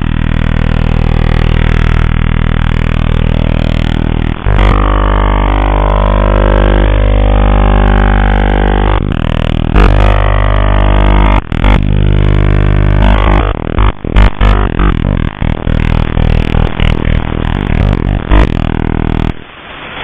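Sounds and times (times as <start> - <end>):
droning radio buzz: 0.0 - 20.0.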